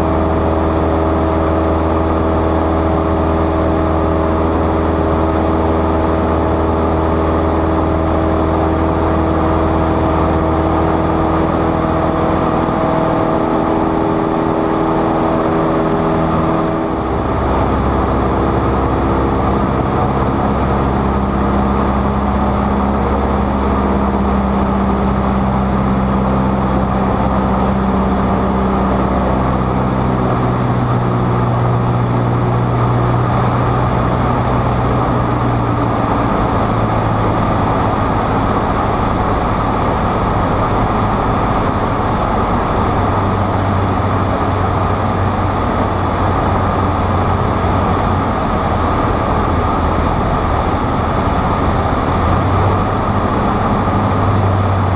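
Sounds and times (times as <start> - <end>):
airplane engine droning: 0.0 - 54.9
rush of airflow: 0.0 - 54.9.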